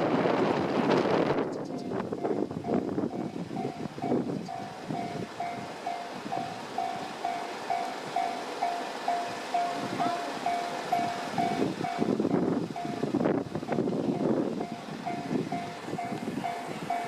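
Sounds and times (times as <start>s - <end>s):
electric train passing: 0.0s - 17.0s
level-crossing warning bell: 1.8s - 17.0s.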